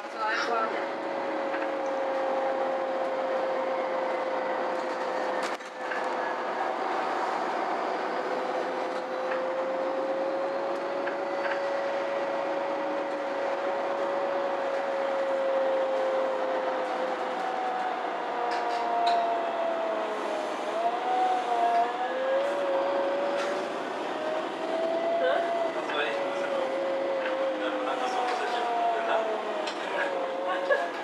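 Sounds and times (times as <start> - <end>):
bus running and road noise: 0.0 - 31.0
bus whine: 0.0 - 31.0.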